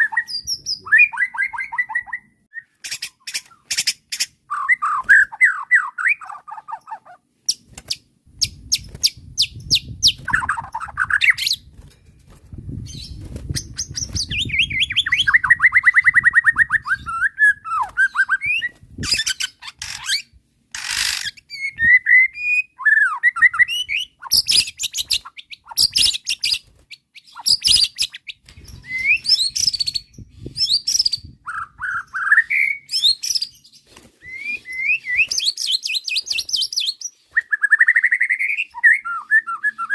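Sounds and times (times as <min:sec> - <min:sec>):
bird singing trills and whistles: 0:00.0 - 0:07.7, 0:08.4 - 0:11.7, 0:12.8 - 0:39.9.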